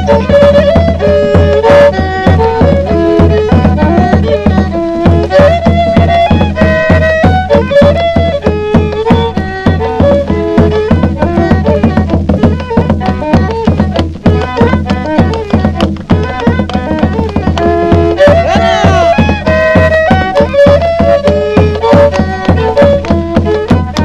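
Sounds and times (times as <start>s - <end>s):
instrumental folk melody: 0.0s - 24.0s
steady drum beat: 0.0s - 24.0s.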